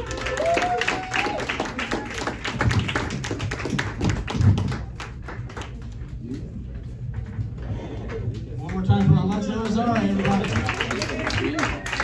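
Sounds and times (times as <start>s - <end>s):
small audience clapping: 0.0s - 6.4s, 8.0s - 12.0s.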